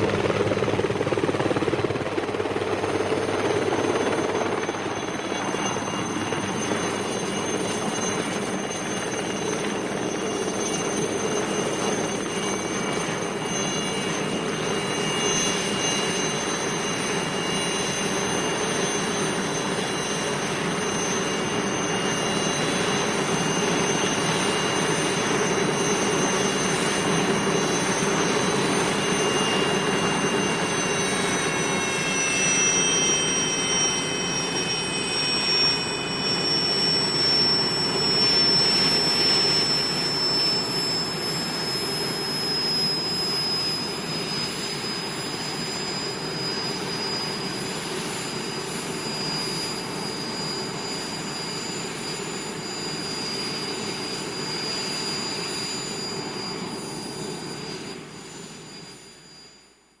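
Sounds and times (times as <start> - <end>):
helicopter turbine engine roaring: 0.0 - 59.9.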